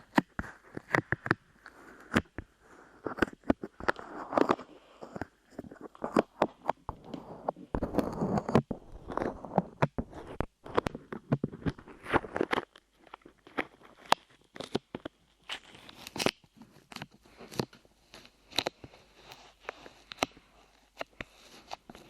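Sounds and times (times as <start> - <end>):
clay crackling on microphone: 0.0 - 22.0.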